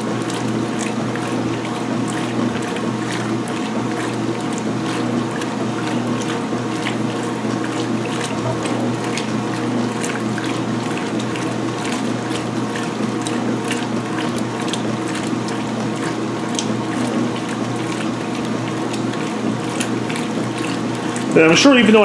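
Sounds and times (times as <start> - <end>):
washing machine motor hum: 0.0 - 22.0
water churning and sloshing: 0.0 - 22.0.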